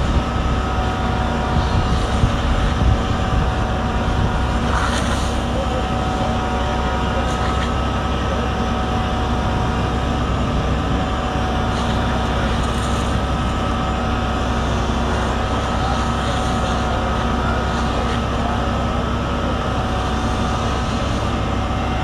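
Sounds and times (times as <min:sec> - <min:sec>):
fire engine pump droning: 0:00.0 - 0:22.0.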